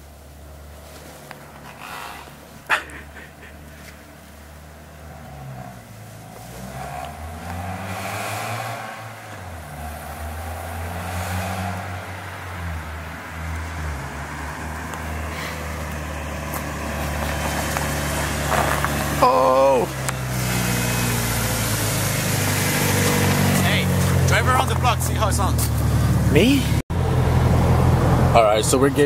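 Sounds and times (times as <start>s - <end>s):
car accelerating through gears: 4.7s - 29.0s.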